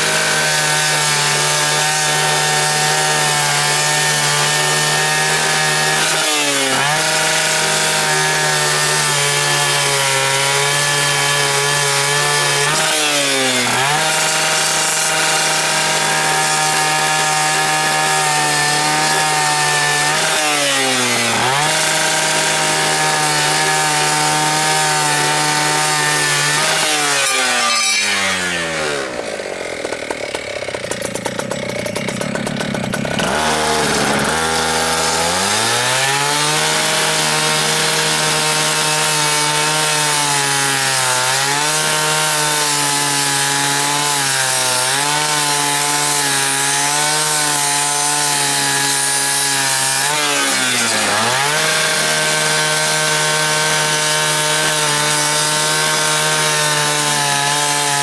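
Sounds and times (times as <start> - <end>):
fire saw cutting metal bolts: 0.0 - 58.0.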